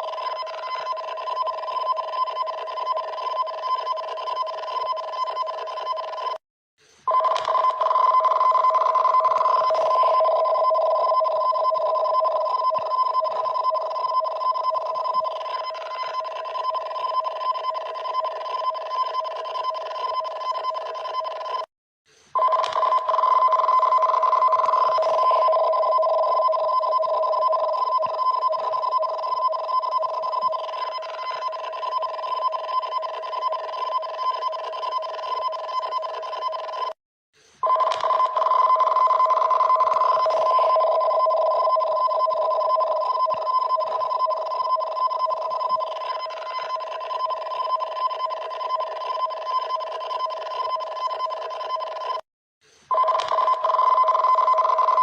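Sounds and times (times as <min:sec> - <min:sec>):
two-tone electronic alarm: 0:00.0 - 0:06.4, 0:07.1 - 0:21.7, 0:22.4 - 0:37.0, 0:37.6 - 0:52.2, 0:52.9 - 0:55.0.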